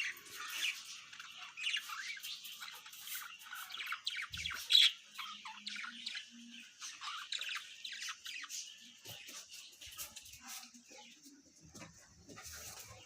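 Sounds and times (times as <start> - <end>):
budgerigars chirping and squawking: 0.0 - 11.2.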